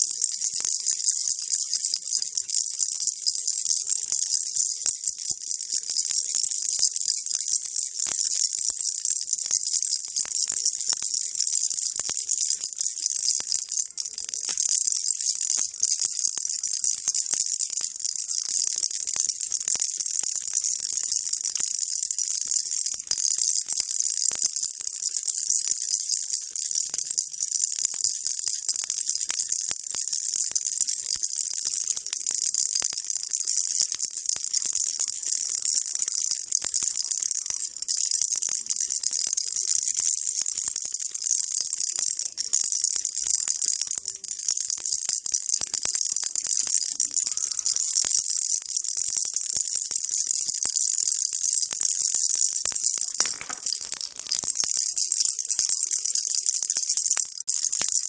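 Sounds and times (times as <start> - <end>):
baby rattle shaken: 0.0 - 58.0.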